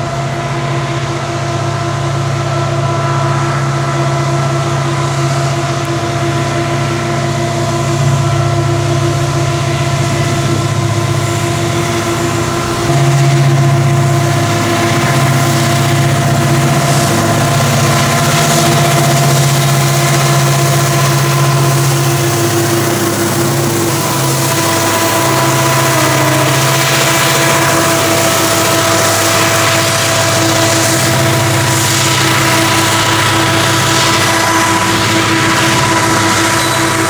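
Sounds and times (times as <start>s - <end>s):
locomotive engines droning: 0.0s - 37.0s
steady whine: 0.0s - 37.0s.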